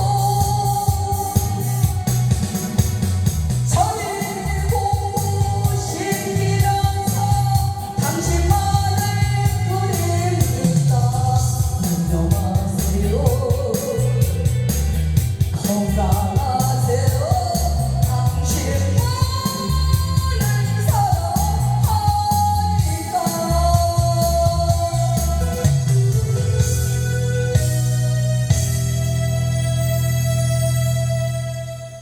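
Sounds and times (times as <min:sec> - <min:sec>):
person singing: 0:00.0 - 0:02.8, 0:03.7 - 0:27.8
karaoke backing track: 0:00.0 - 0:32.0.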